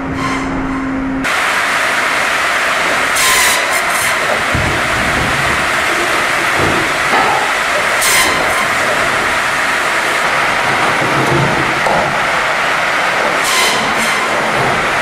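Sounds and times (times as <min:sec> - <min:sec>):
log-processing machine running: 0:01.2 - 0:15.0.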